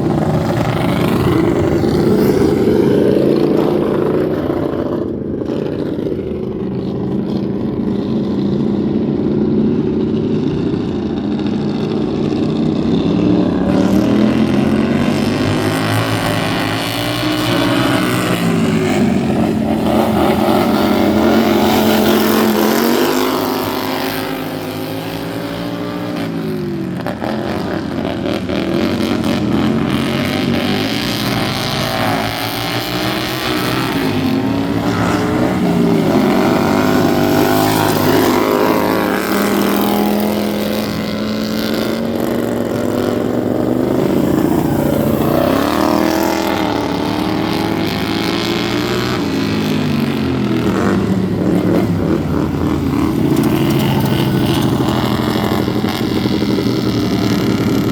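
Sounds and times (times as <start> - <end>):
racing lawn mower engines: 0.0 - 57.9.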